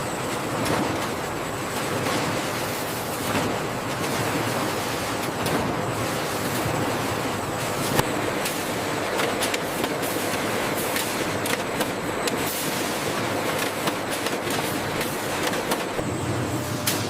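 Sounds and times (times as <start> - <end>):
factory machinery hum: 0.0 - 17.0
machinery clicks and clatter: 0.0 - 17.0.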